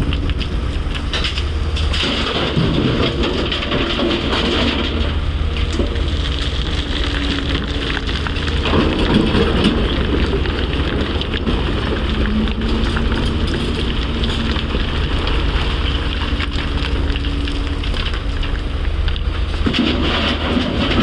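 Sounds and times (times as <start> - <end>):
crackling rattling of rock: 0.0 - 21.0
excavator engine rumble: 0.0 - 21.0.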